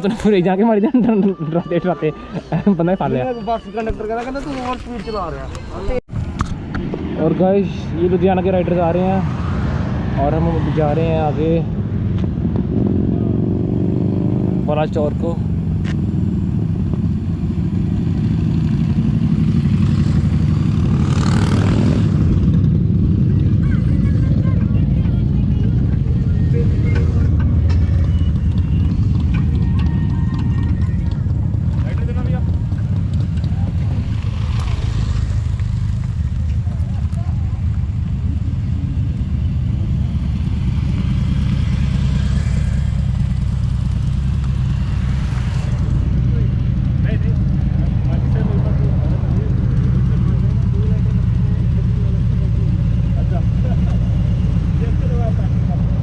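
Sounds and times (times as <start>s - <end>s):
motorcycle engine droning: 0.0s - 56.0s
road and wind noise: 0.0s - 56.0s.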